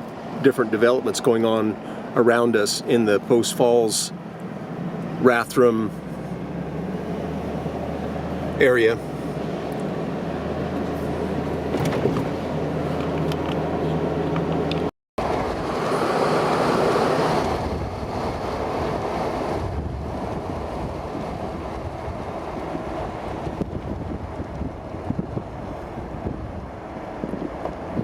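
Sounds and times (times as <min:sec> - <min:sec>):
car engine and tyre hum: 0:00.0 - 0:28.0
wind and tyre rush: 0:00.0 - 0:28.0.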